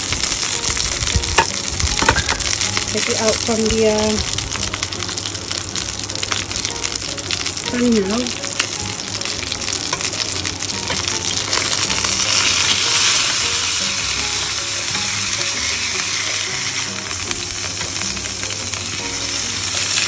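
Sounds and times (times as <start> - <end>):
fish sizzling in skillet: 0.0 - 20.0.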